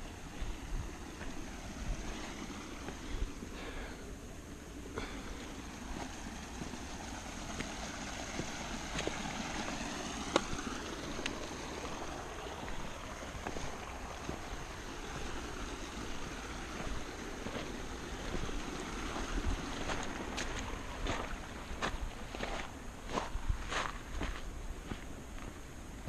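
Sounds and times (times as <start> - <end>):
footsteps on rocky trail: 0.0 - 4.0, 5.0 - 26.0
steady rushing noise: 0.0 - 26.0.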